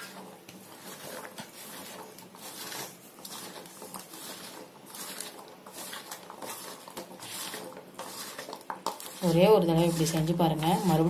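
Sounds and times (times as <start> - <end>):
potatoes rustling in steel bowl: 0.0 - 11.0.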